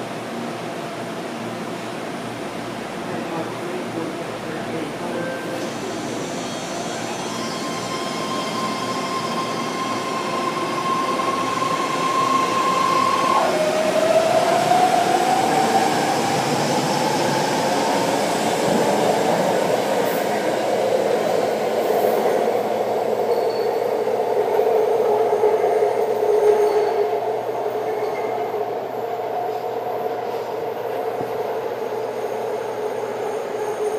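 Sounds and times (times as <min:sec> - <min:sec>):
rumble of wheels on rail: 0:00.0 - 0:33.9
train propulsion whine: 0:03.7 - 0:33.9.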